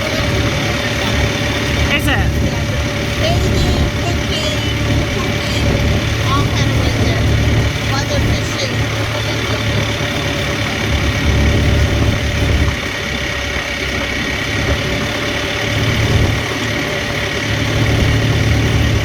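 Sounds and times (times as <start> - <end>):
boat engine rumbling: 0.0 - 19.0.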